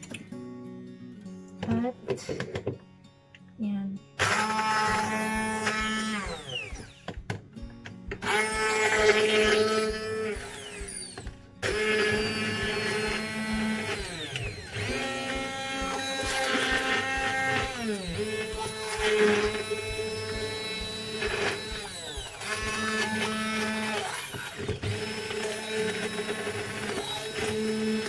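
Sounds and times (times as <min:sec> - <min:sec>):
immersion blender motor whine: 0:04.2 - 0:28.0.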